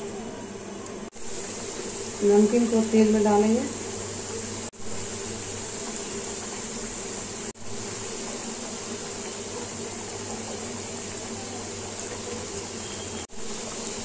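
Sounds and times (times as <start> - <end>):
dough deep-frying in oil: 0.0 - 14.0.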